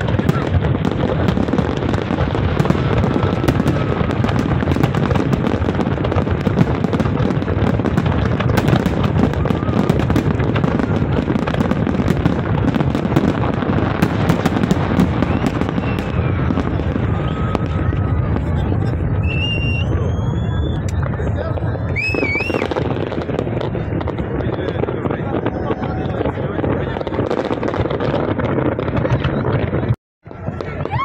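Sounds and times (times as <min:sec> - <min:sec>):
fireworks bursting and crackling: 0:00.0 - 0:31.0.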